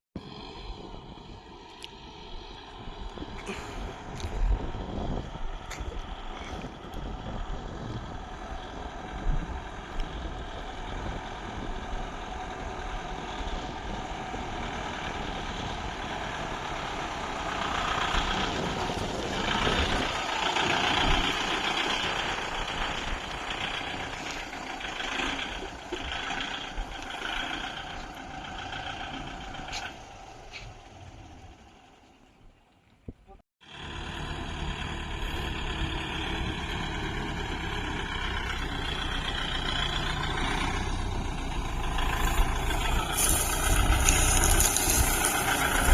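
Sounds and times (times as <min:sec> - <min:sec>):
tractor diesel engine running: 0:00.2 - 0:45.9.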